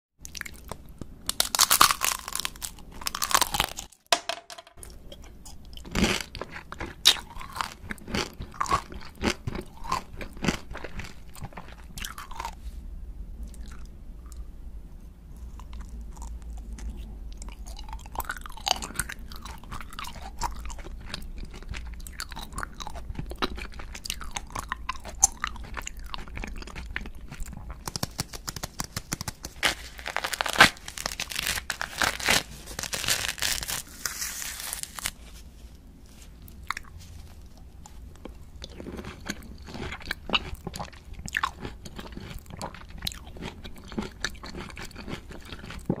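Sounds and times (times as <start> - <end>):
crunchy bites and chewing: 0.2 - 4.0, 4.8 - 12.6, 15.3 - 35.2, 36.6 - 46.0.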